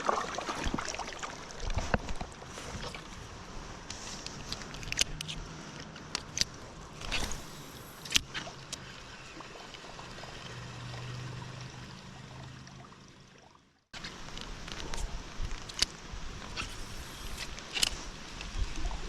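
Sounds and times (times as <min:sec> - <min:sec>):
water trickling and splashing: 0:00.0 - 0:06.0, 0:06.6 - 0:19.0.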